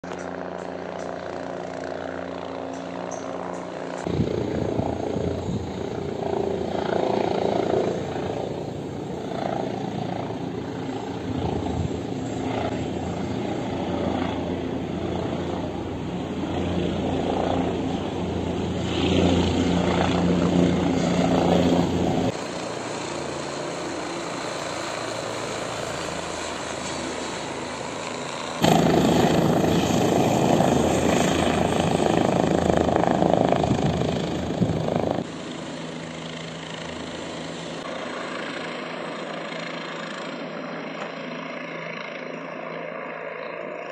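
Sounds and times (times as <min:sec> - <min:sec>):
helicopter flying overhead: 0:00.0 - 0:43.9.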